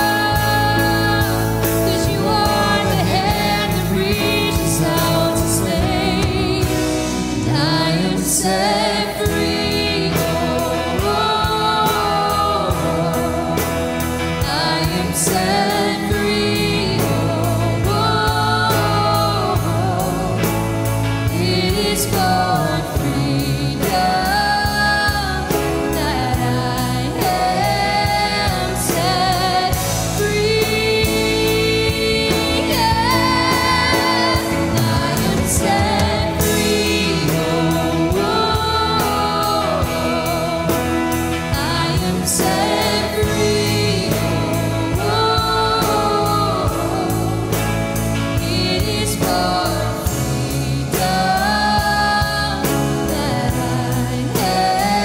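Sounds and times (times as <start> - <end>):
man singing: 0.0 - 13.8, 14.4 - 20.5, 21.3 - 47.5
acoustic guitar: 0.0 - 55.0
woman singing: 0.0 - 55.0.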